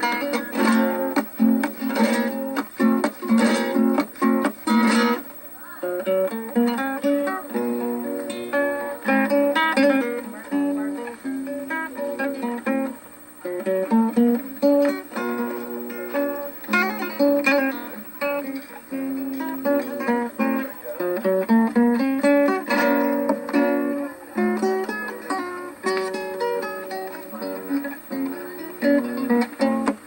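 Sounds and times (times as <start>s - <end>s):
acoustic guitar-like plucking: 0.0s - 30.0s.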